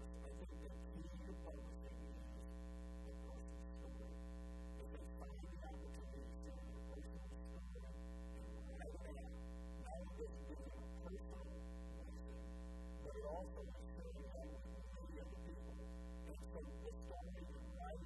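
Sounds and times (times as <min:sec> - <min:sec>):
electrical mains hum: 0:00.0 - 0:18.0
faint voice: 0:00.0 - 0:18.0.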